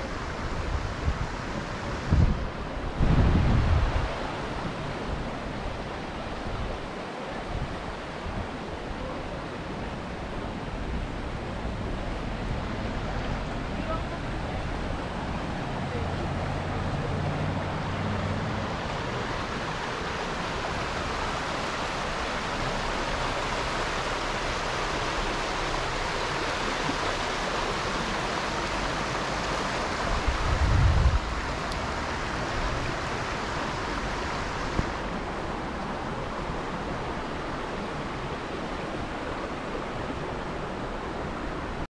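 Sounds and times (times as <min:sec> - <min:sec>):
running water rushing: 0:00.0 - 0:41.9.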